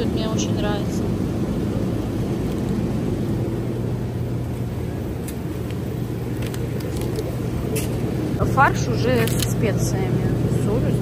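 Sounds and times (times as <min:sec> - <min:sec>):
refrigeration and ventilation hum: 0:00.0 - 0:11.0.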